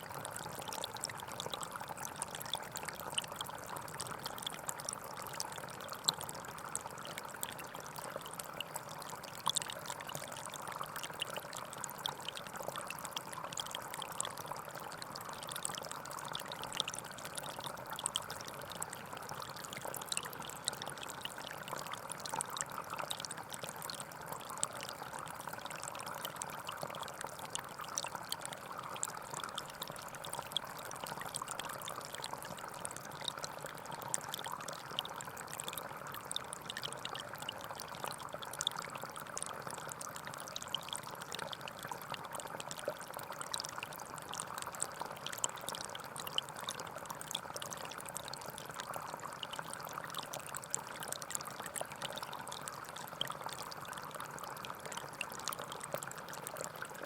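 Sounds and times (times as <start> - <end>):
small stream flowing: 0.0 - 57.0.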